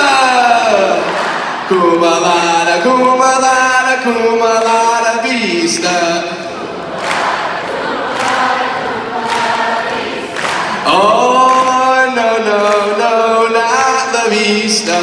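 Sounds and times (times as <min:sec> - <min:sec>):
crowd singing a chant: 0:00.0 - 0:15.0.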